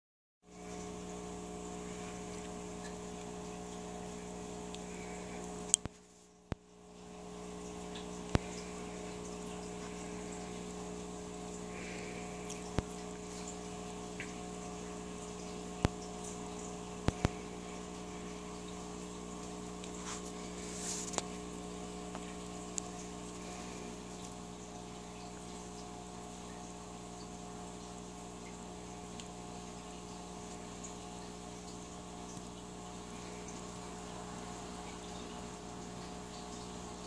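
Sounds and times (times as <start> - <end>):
aquarium pump humming: 0.5 - 37.0.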